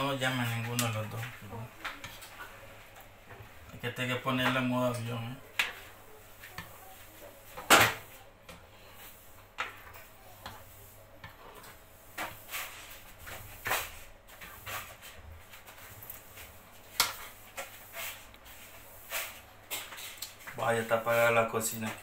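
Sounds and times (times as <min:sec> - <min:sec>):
spoon scraping food in frying pan: 0:00.0 - 0:20.5.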